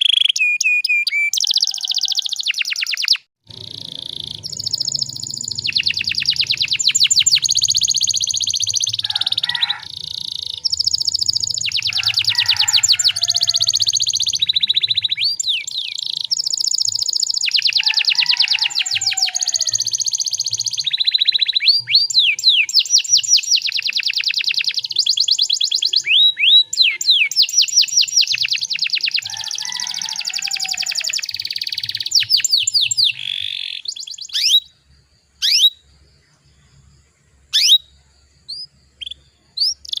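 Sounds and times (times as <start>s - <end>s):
canary singing trills: 0.0s - 36.0s, 37.3s - 40.0s.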